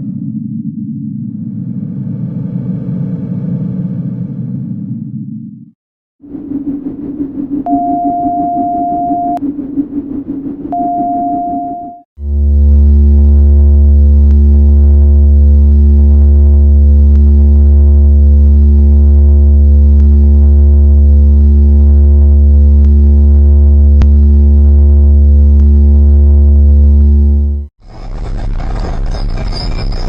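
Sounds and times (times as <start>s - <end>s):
low synthesized drone with slow pulsing: 0.0s - 27.7s.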